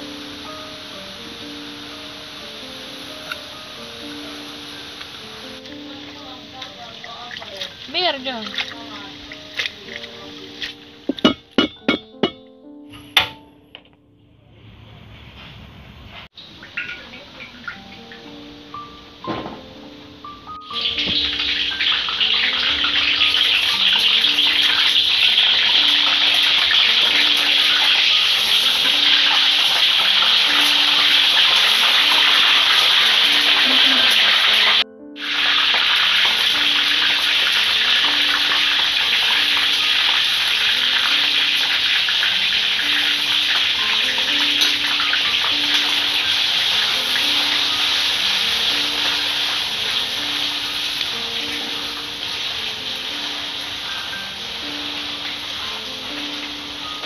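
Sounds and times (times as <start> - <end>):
hot oil sizzling in a wok: 0.0 - 11.9, 20.6 - 57.0.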